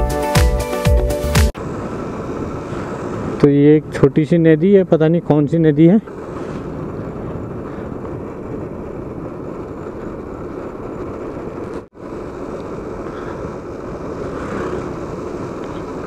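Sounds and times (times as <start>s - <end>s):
motorcycle engine and tyre noise: 1.6s - 16.0s
wind rushing over microphone: 1.6s - 16.0s.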